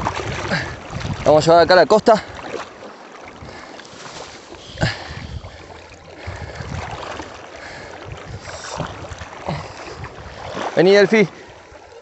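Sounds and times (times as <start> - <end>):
wind buffeting microphone: 0.0 - 2.6, 3.3 - 3.7, 4.6 - 12.0
water splashing as person wades: 0.0 - 12.0.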